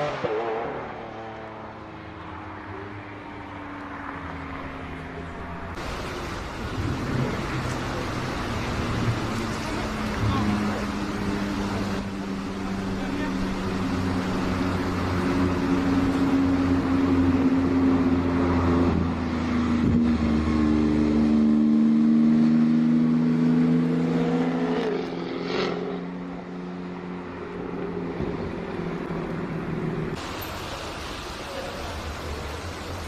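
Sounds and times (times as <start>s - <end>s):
sports car engines droning: 0.0s - 33.0s.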